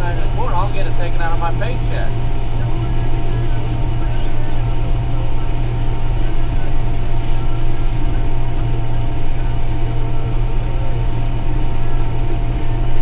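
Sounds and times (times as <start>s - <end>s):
combine harvester engine drone: 0.0s - 13.0s
machinery whine: 0.0s - 13.0s.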